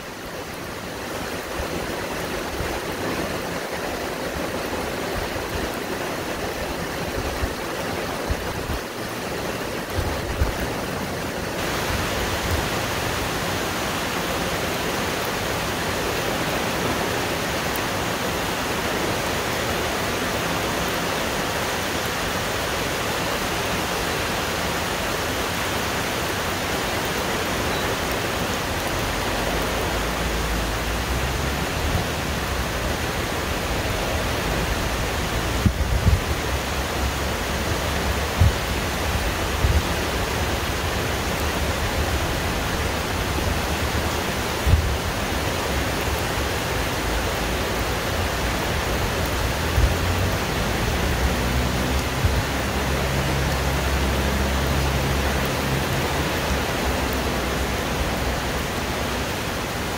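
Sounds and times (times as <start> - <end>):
heavy rain on trees: 0.0 - 59.9
strong wind gusts: 0.0 - 59.9.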